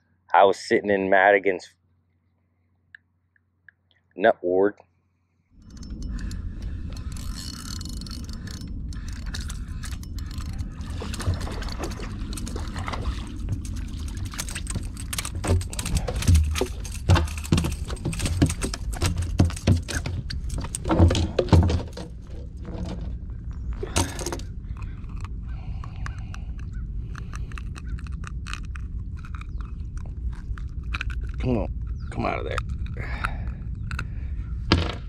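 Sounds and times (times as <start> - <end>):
low rumble: 5.6 - 35.0.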